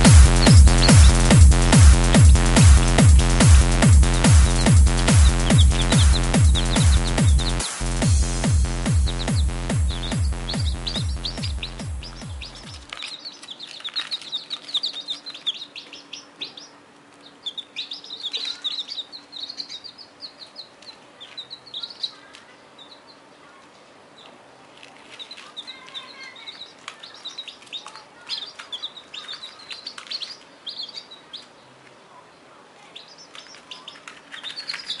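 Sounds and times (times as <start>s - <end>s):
chicks peeping: 0.0s - 35.0s.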